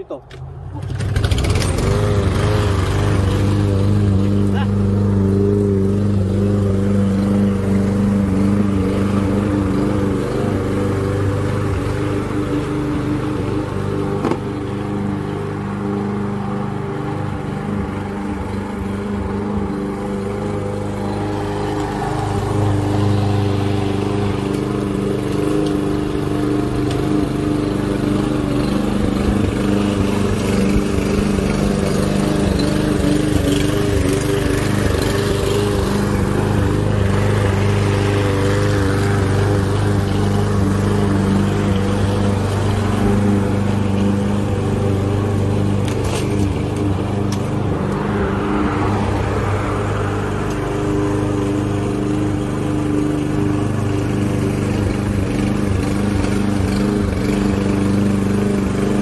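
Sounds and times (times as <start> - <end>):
lawn mower engine cutting grass: 0.0 - 59.0.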